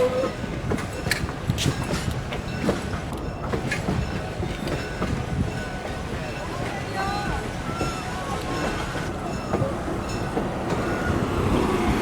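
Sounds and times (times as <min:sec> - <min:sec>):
train rumbling by: 0:00.0 - 0:12.0.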